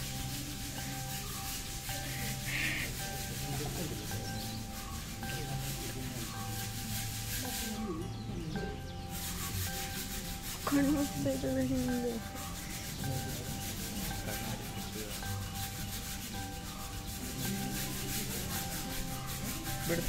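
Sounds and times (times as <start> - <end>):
rhythmic scrubbing strokes: 0.0 - 20.0.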